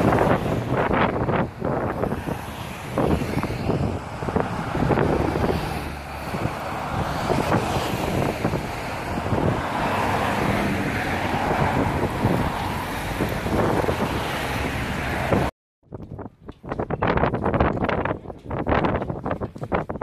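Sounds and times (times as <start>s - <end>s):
cars passing on road: 0.0s - 20.0s
wind buffeting microphone: 0.0s - 20.0s.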